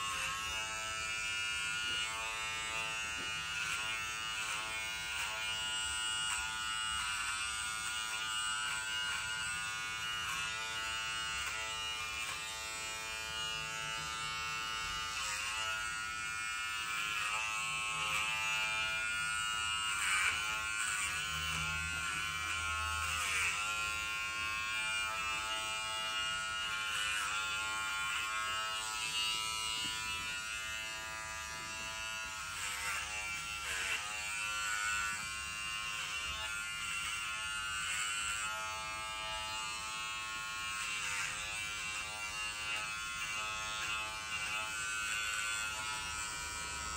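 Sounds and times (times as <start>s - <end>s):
pet trimmer buzzing: 0.0s - 46.9s.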